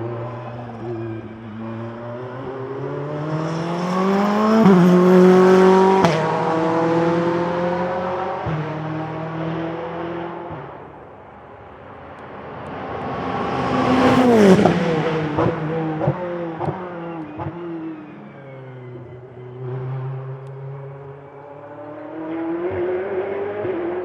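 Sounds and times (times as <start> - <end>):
race car engine passing at speed: 0.0 - 24.0.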